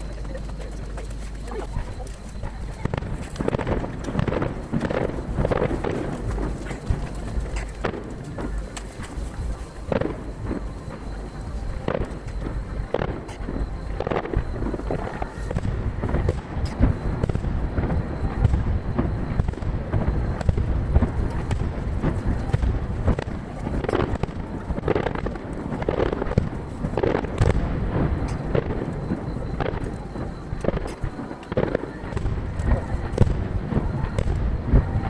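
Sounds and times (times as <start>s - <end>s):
crackles: 0.0s - 35.0s.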